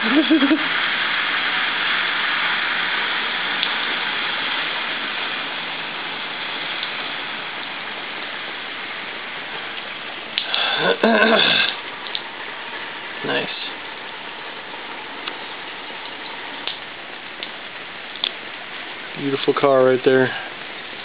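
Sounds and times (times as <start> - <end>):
rain hissing: 0.0 - 21.0
running floodwater: 0.0 - 21.0.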